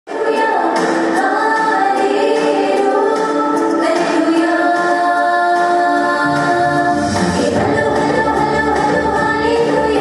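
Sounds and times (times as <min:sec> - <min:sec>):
backing music: 0:00.1 - 0:10.0
group singing: 0:00.1 - 0:10.0.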